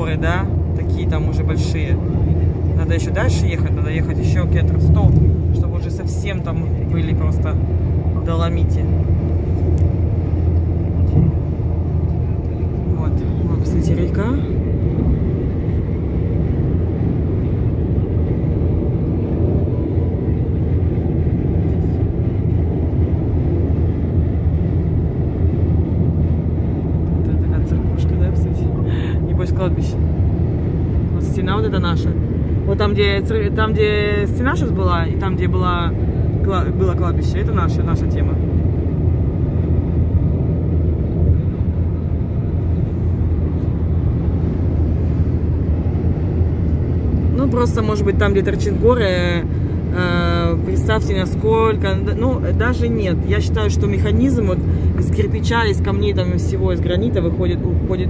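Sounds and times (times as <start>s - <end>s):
car road rumble: 0.0s - 58.0s.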